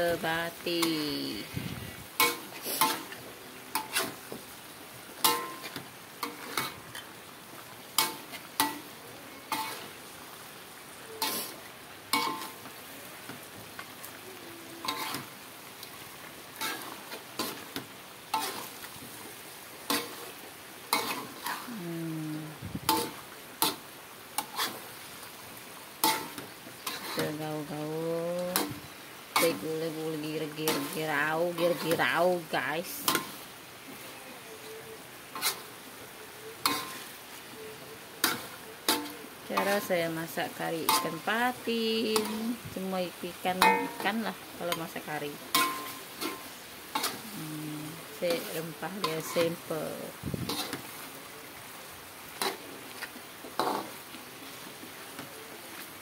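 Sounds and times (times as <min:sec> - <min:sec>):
metal utensil scraping wok: 0:00.0 - 0:07.1, 0:09.5 - 0:10.0, 0:11.2 - 0:12.7, 0:14.8 - 0:15.4, 0:16.6 - 0:21.8, 0:22.4 - 0:34.1, 0:35.3 - 0:35.8, 0:36.5 - 0:51.7, 0:52.3 - 0:55.3
frying sizzle: 0:00.0 - 0:56.0.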